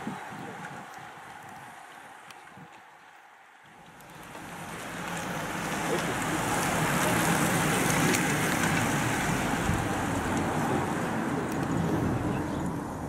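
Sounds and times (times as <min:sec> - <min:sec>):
car road and engine noise: 0:00.0 - 0:13.0
wind hiss: 0:00.0 - 0:13.0.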